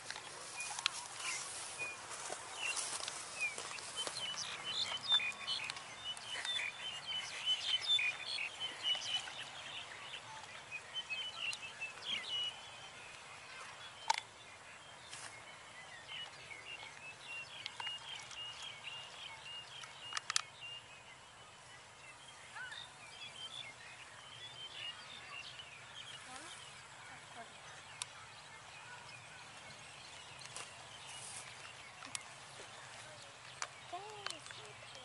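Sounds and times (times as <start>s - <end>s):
faint outdoor hiss: 0.0s - 35.0s
small birds chirping: 0.0s - 35.0s.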